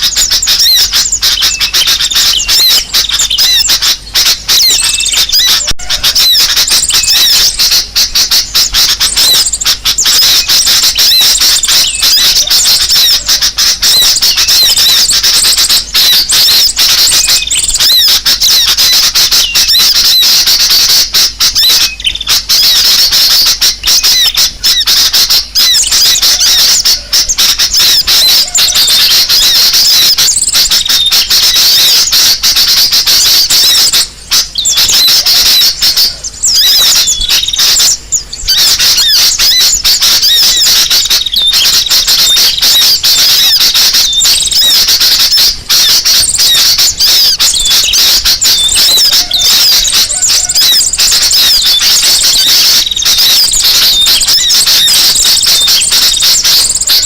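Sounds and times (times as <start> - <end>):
small birds chattering: 0.0 - 57.0.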